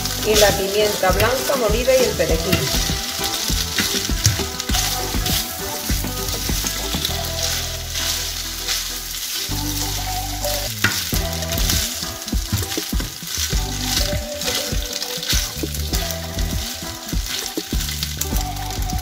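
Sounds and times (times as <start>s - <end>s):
pasta sizzling in a frying pan: 0.0s - 19.0s.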